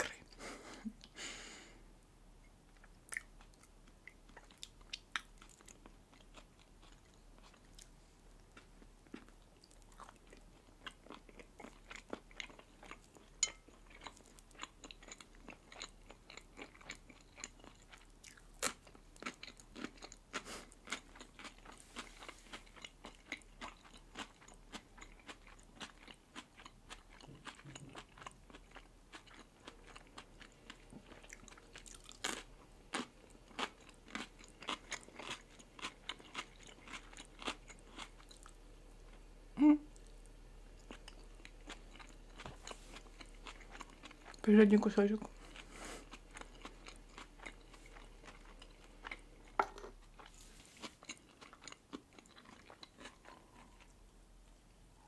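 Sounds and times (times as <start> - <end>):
crisp crunching and chewing: 2.8 - 39.2, 40.0 - 44.5, 45.2 - 54.0.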